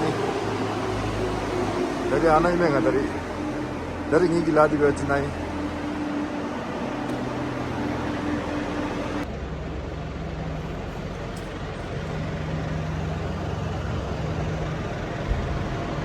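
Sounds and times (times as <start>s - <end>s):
machinery hum and rumble: 0.0s - 16.0s.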